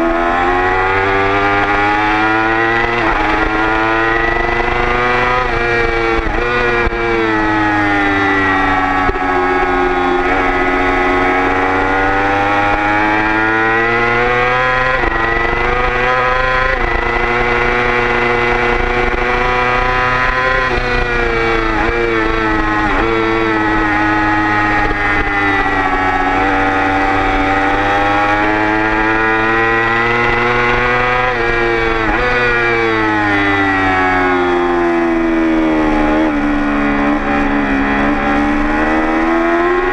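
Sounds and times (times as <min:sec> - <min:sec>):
motorcycle engine at full throttle: 0:00.0 - 0:39.9
quick downshifts: 0:00.0 - 0:39.9.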